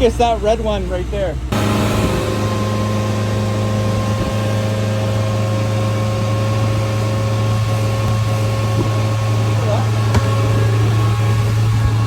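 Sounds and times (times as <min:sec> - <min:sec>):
boat motor humming: 0:00.0 - 0:12.0
wind and water hiss: 0:00.0 - 0:12.0.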